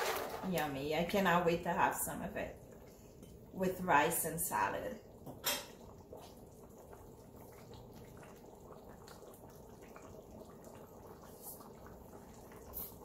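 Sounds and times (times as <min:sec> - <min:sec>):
pot simmering and bubbling: 0:00.0 - 0:13.0.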